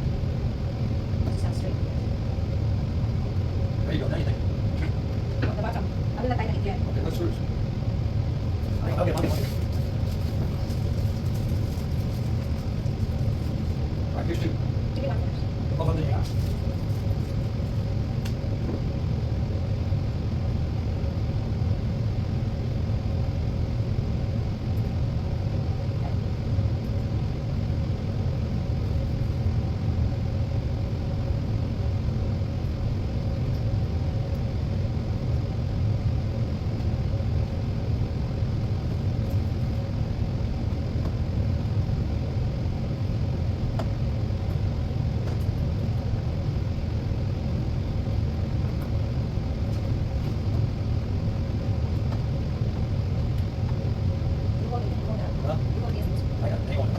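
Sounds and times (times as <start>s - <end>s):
faint hum: 0.0s - 56.9s
low mechanical rumble: 0.0s - 56.9s.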